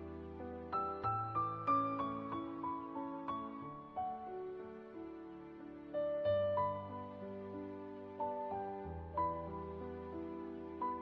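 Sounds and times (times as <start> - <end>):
slow sad music: 0.0 - 11.0.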